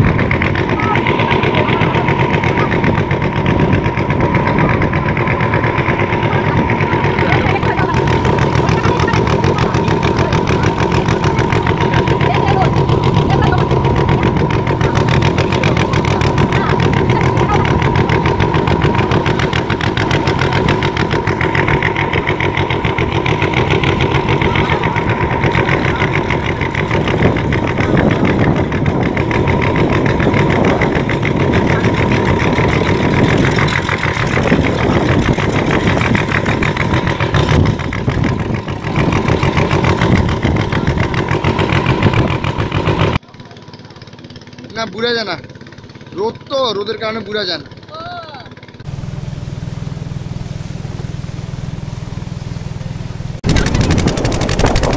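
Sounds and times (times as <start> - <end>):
boat engine running: 0.0 - 54.9
engine whine: 0.0 - 54.9.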